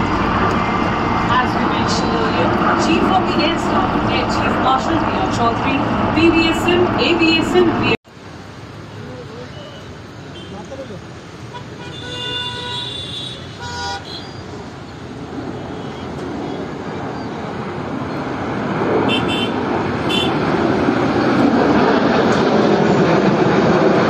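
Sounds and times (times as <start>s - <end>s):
fighter jets roaring past: 0.0s - 8.0s, 12.7s - 24.0s.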